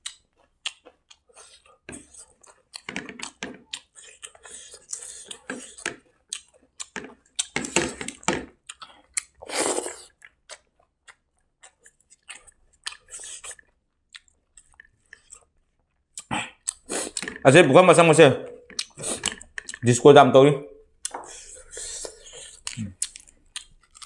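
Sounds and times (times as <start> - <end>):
close chewing mouth sounds: 0.0 - 17.5, 18.6 - 19.9, 21.0 - 24.0.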